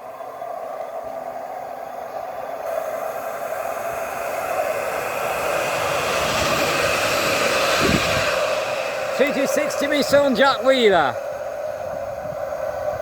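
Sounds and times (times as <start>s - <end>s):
tram motor whirring and rolling: 0.0s - 13.0s.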